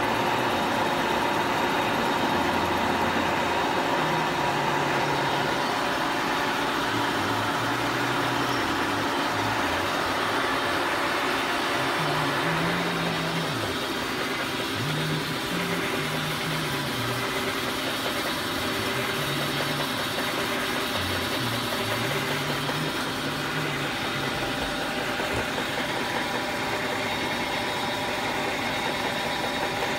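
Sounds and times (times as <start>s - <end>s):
milling machine running: 0.0s - 29.9s.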